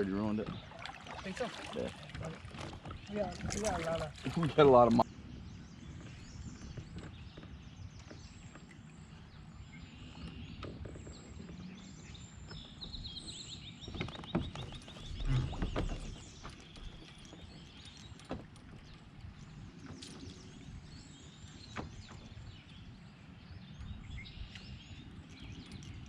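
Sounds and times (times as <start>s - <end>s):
low rumble of creek: 0.0s - 26.0s.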